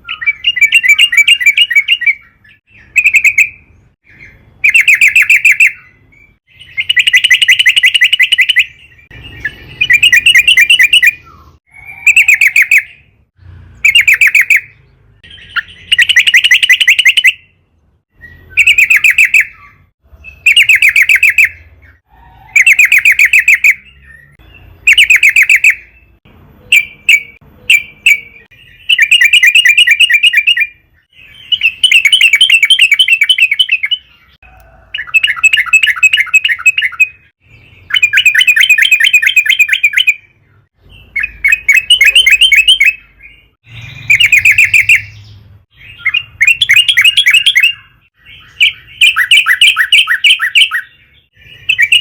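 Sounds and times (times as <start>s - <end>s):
bird chattering song: 0.0s - 52.0s.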